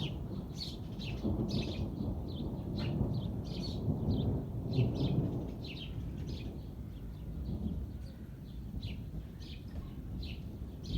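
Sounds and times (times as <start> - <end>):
rain: 0.0 - 10.9
small birds chirping: 0.0 - 10.9.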